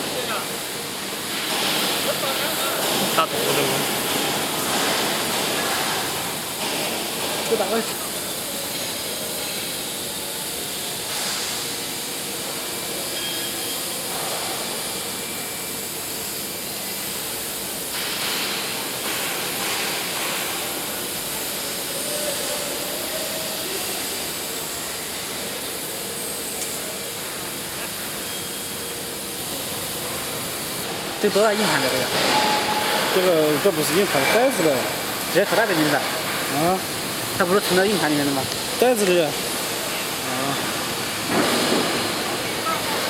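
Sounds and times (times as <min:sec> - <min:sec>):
drilling rig hissing: 0:00.0 - 0:42.6.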